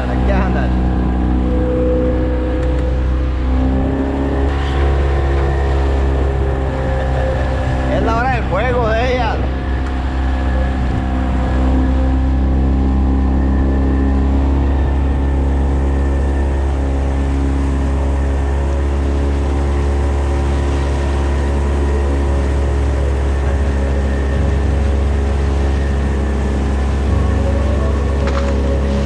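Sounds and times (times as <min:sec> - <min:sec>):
outboard motor running: 0:00.0 - 0:29.0
water rushing against hull: 0:00.0 - 0:29.0.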